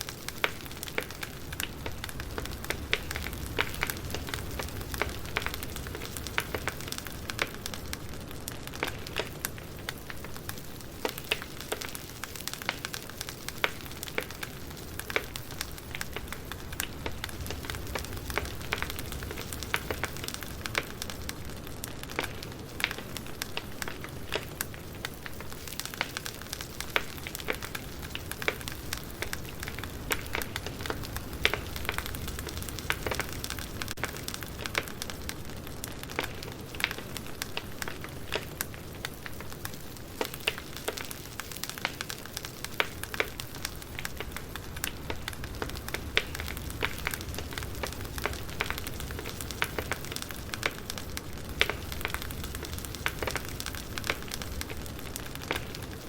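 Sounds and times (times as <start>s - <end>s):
firewood crackling and popping: 0.0s - 56.0s
low rumble of fire: 0.0s - 56.0s.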